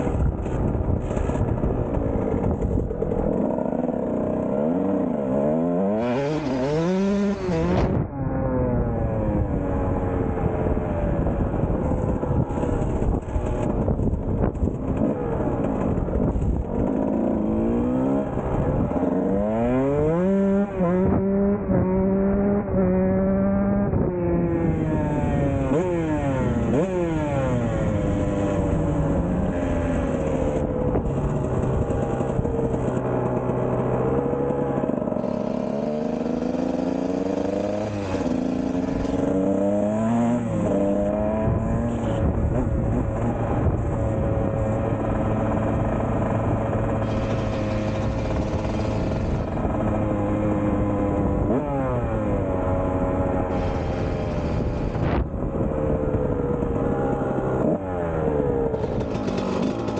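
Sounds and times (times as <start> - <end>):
dirt bike engine revving: 2.1 - 9.7, 14.9 - 55.3, 56.4 - 59.9.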